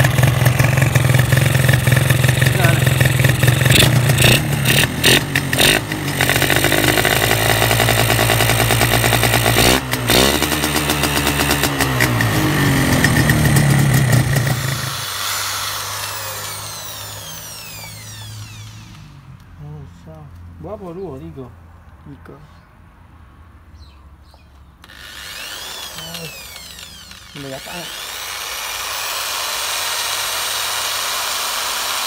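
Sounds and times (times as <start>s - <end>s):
two-stroke engine running: 0.0s - 19.1s, 24.9s - 32.0s.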